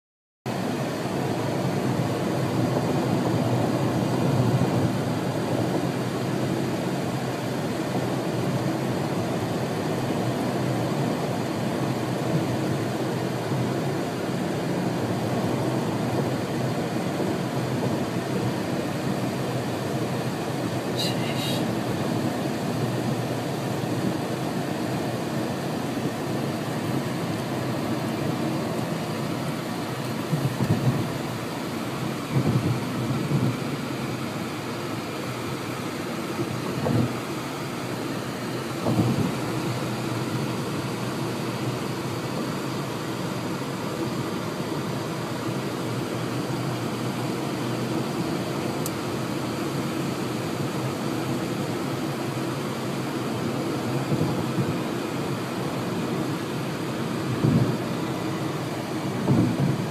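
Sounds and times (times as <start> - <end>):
wind and road noise in car: 0.5 - 59.9.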